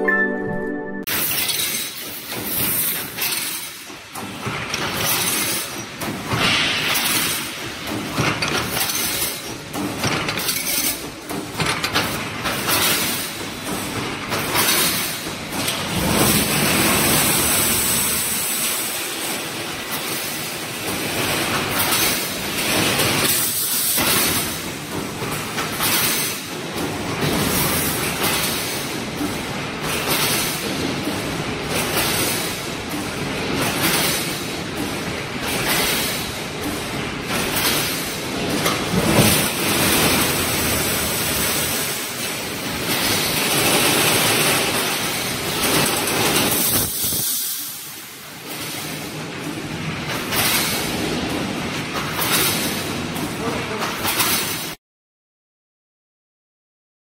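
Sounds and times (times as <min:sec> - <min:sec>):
welding machine clanking and rattling: 0:01.1 - 0:54.8.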